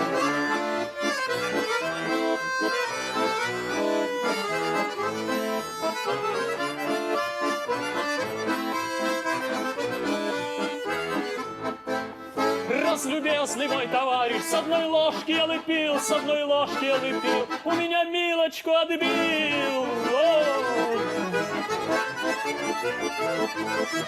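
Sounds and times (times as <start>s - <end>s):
button accordion playing a tune: 0.0s - 24.0s.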